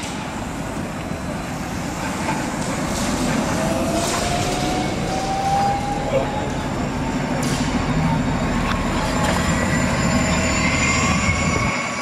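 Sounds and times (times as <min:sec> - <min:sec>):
rumble of traffic and tyres: 0:00.0 - 0:12.0
trolleybus whine rising in pitch: 0:00.7 - 0:12.0.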